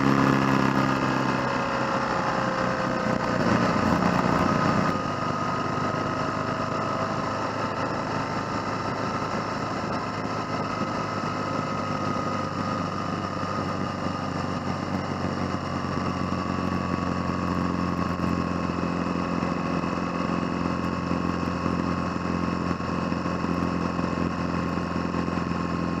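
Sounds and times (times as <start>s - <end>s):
motorcycle engine running: 0.0s - 26.0s
road noise: 0.0s - 26.0s
wind noise: 0.0s - 26.0s.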